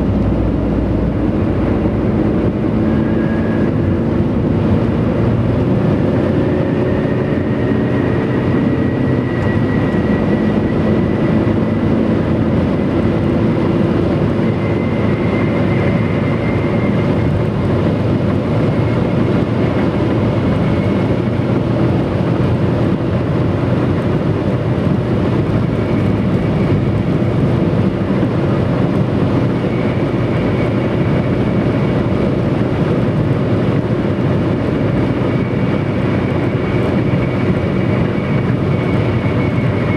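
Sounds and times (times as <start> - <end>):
road noise rushing: 0.0 - 39.9.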